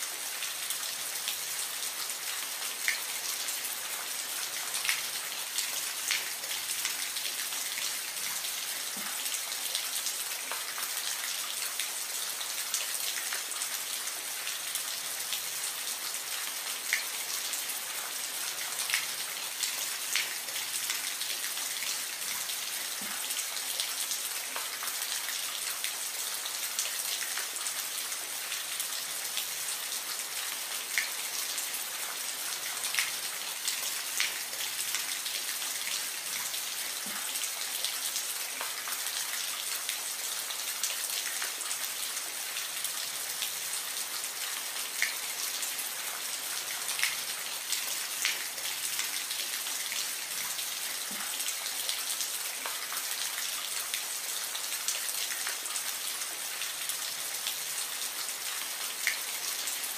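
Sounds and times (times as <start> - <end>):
gentle rain hiss: 0.0 - 59.9.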